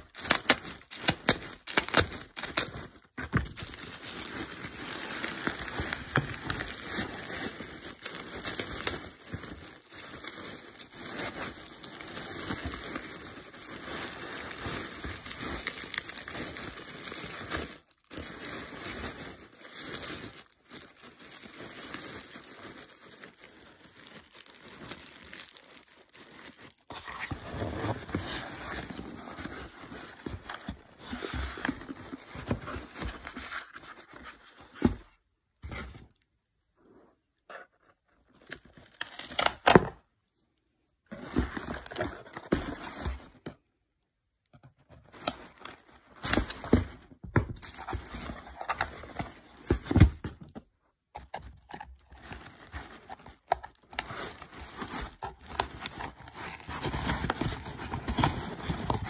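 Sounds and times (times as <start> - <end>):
crinkling and rustling of packing: 0.0 - 36.5, 41.0 - 59.0.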